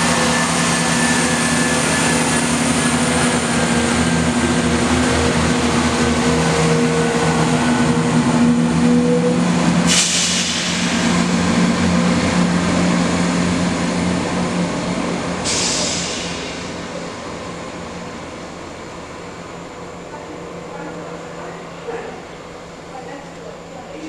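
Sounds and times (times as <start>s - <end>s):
diesel engines droning: 0.0s - 24.0s
train wheels on rails: 0.0s - 24.0s.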